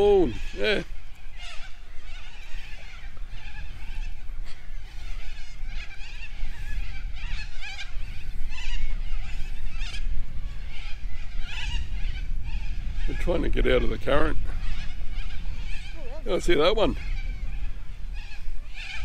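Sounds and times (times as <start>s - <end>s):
wavering bird calls: 0.0s - 19.0s
wind buffeting microphone: 0.0s - 19.0s.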